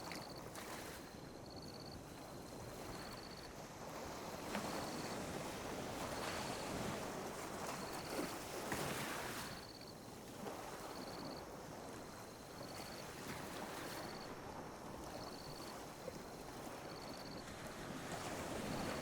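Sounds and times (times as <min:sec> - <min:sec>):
sea waves lapping on a beach: 0:00.0 - 0:19.0.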